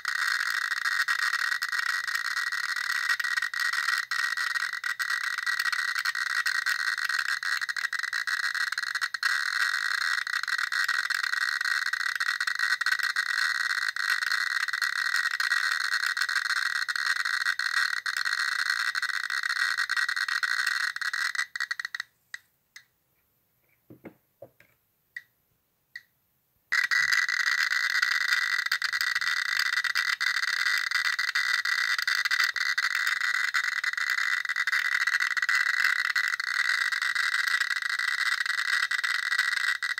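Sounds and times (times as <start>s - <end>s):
geiger counter crackling: 0.0s - 22.9s, 26.7s - 39.9s.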